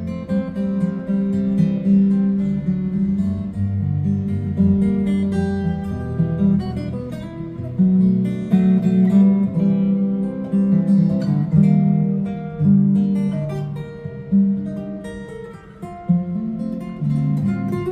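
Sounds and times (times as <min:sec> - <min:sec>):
acoustic guitar music: 0:00.0 - 0:17.9.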